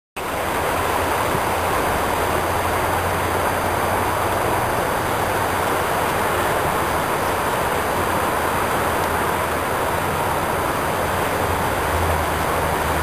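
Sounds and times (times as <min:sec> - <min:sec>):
river running over rocks: 0:00.2 - 0:13.0.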